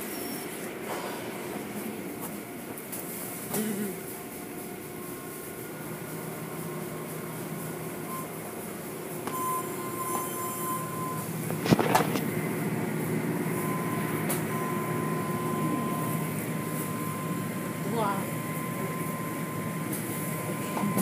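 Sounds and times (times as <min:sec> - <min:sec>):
car wash machinery running: 0:00.0 - 0:21.0
thin steady whine: 0:00.0 - 0:21.0.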